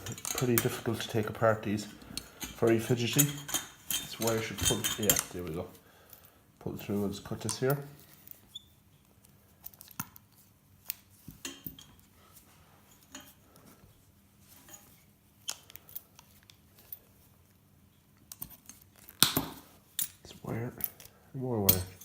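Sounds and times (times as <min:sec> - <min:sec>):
rustling handling noise: 0:00.0 - 0:17.6.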